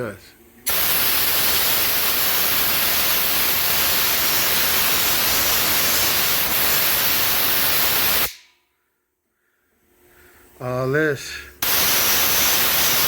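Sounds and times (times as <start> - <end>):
loud steady noise hiss: 0.0 - 8.5, 9.7 - 13.0.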